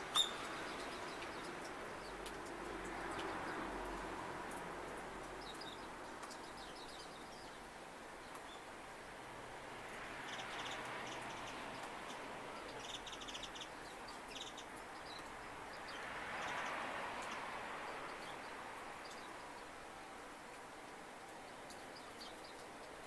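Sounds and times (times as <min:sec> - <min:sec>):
small birds chirping: 0:00.1 - 0:03.7, 0:05.3 - 0:08.7, 0:10.2 - 0:19.8, 0:20.5 - 0:23.0.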